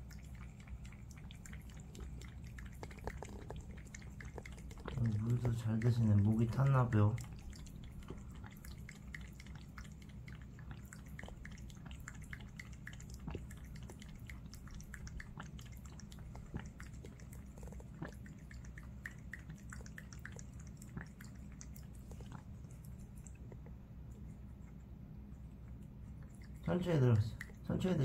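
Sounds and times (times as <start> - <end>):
cat lapping water: 0.0 - 28.0
low steady hum: 0.0 - 28.0.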